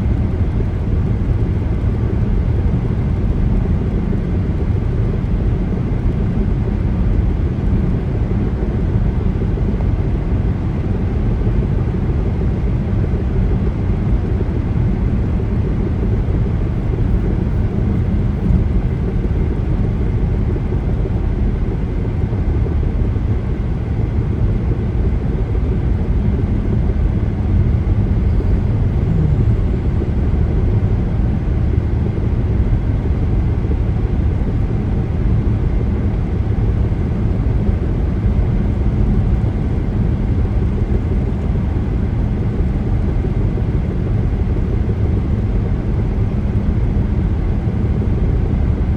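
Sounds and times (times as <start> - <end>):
car driving at highway speed: 0.0 - 48.9.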